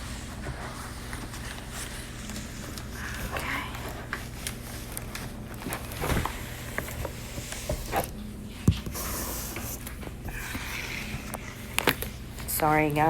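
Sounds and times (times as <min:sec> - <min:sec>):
plastic wrapping crinkling: 0:00.0 - 0:08.9, 0:09.7 - 0:13.0.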